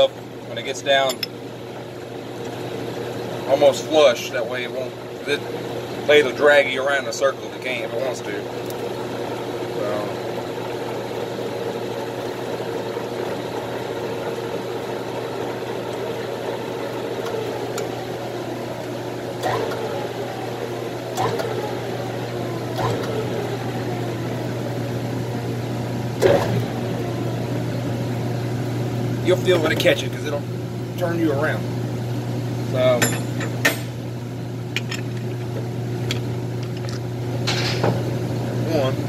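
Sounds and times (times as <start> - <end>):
lathe motor humming: 0.0 - 33.0.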